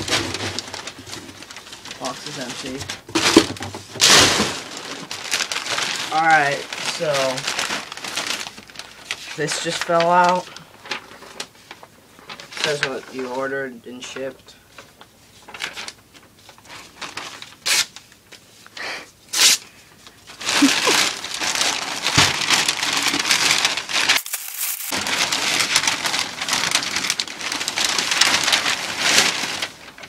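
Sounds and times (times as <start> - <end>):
paper rustling and crinkling: 0.0 - 18.6, 19.4 - 30.0
wrapping crinkling as pulled off: 4.0 - 13.3, 14.0 - 18.5, 19.3 - 30.0.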